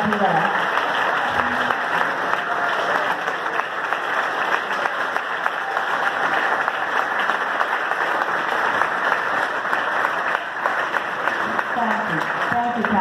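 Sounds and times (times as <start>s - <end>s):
large audience applauding: 0.0s - 13.0s.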